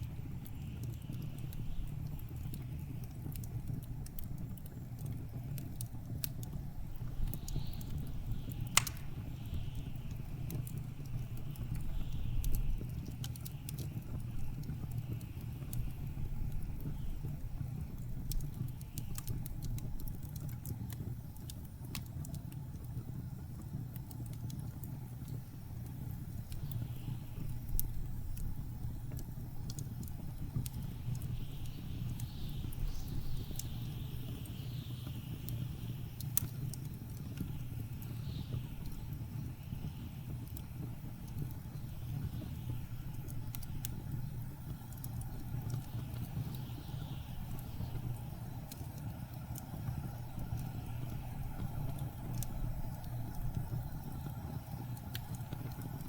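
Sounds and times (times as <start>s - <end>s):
sharp crack of fire: 0.0s - 56.0s
wood fire crackling: 0.0s - 56.0s.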